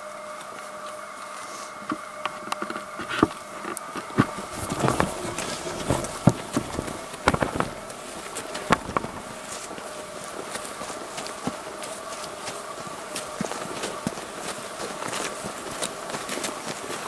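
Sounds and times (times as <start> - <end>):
faint steady hum: 0.0 - 17.0
footsteps on dry grass and dirt: 0.8 - 17.0.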